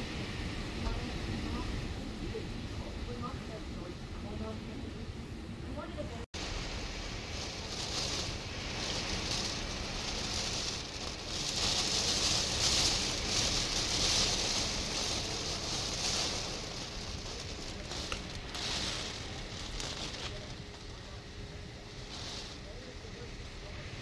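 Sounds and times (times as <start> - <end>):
heavy rain and wind: 0.0 - 24.0.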